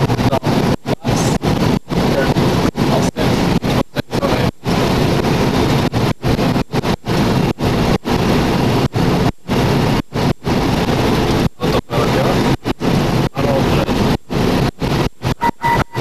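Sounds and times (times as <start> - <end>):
rumbling rush of air: 0.0 - 16.0.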